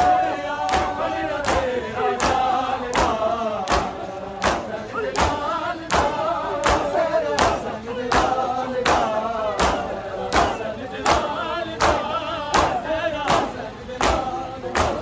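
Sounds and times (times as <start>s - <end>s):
men chanting in unison: 0.0s - 15.0s
chest-beating slaps: 0.7s - 15.0s.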